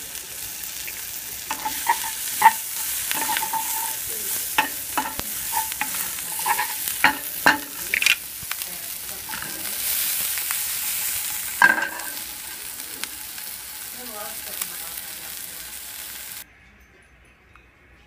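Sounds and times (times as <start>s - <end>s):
onions sizzling in frying pan: 0.0s - 16.4s.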